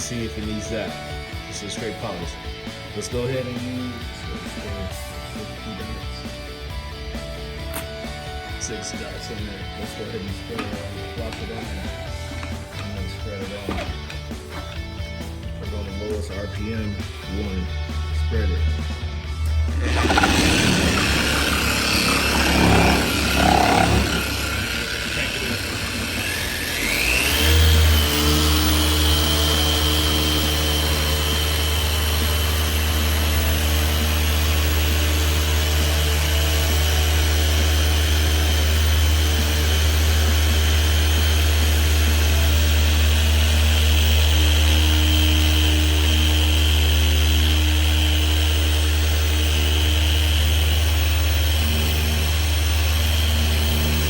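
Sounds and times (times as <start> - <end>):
polisher whining: 0.0 - 16.2, 17.3 - 54.0.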